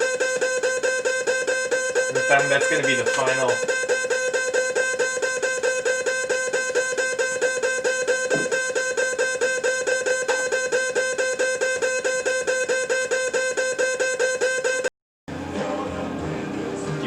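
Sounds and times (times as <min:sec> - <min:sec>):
pulsing electronic drone: 0:00.0 - 0:17.0.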